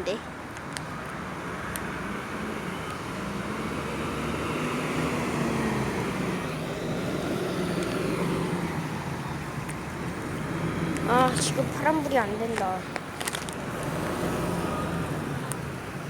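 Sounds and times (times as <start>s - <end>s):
tyres on wet road: 0.0s - 16.0s
vehicle engine hum: 0.0s - 16.0s.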